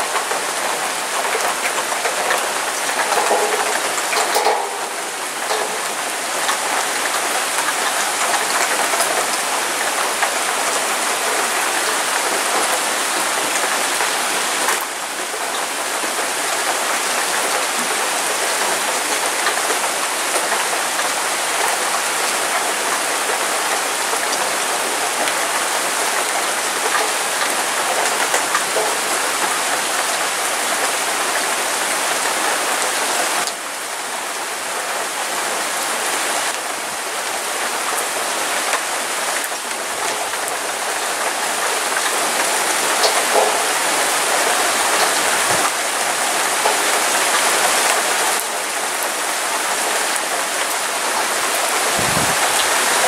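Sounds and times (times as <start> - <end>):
heavy rain on ground: 0.0 - 53.0.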